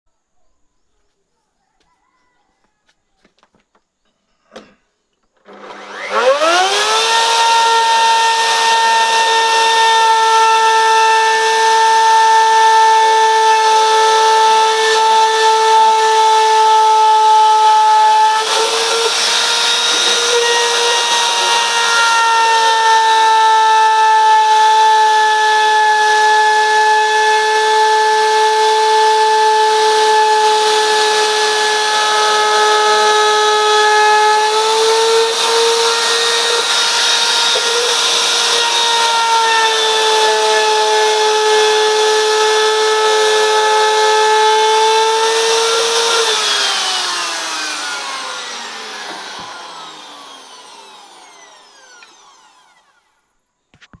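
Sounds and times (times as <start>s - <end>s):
power tool motor whining: 5.4s - 53.2s.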